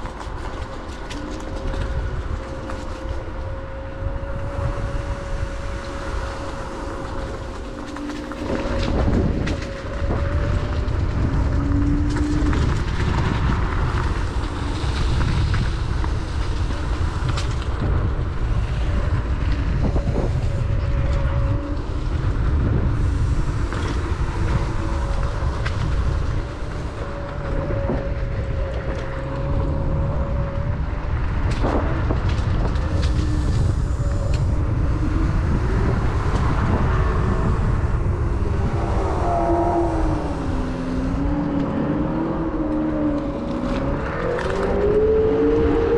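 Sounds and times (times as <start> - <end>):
wind and tyre noise: 0.0 - 45.9
electric motor whine: 1.1 - 45.9.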